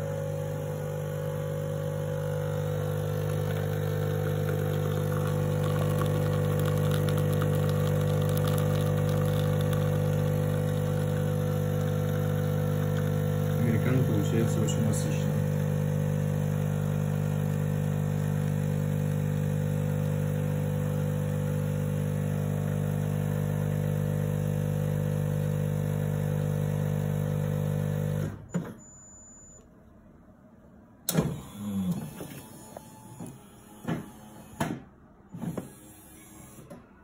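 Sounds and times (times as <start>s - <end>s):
coffee machine humming: 0.0s - 28.7s, 31.1s - 34.5s.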